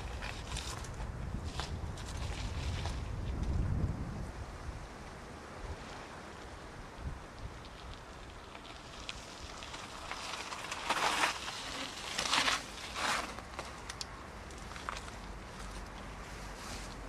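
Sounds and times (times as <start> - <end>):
bike tyres crunching on loose ground: 0.0 - 4.2, 5.8 - 17.0.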